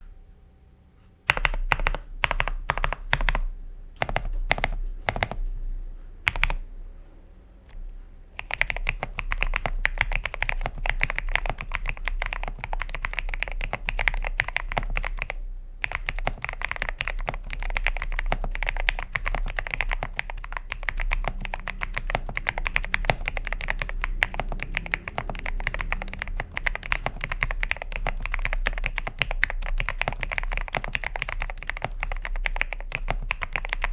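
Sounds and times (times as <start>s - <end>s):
typing on mechanical keyboard: 1.3s - 5.4s, 6.2s - 6.6s, 8.4s - 33.9s.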